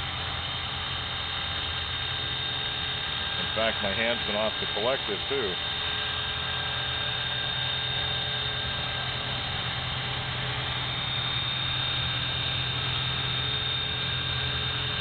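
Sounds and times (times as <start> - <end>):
helicopter rotor hum: 0.0 - 15.0
high motor whine: 0.0 - 15.0.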